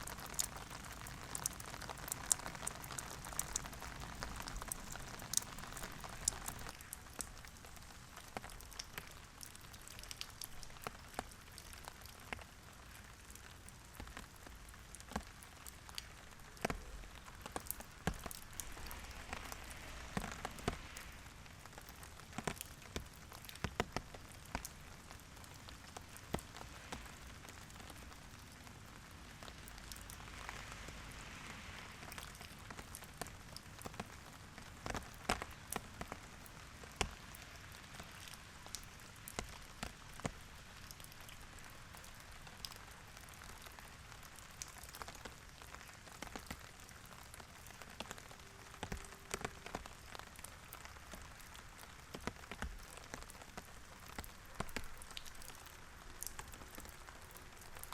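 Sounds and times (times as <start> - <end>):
gentle rain hiss: 0.0 - 57.9
raindrops tapping close by: 0.0 - 57.9.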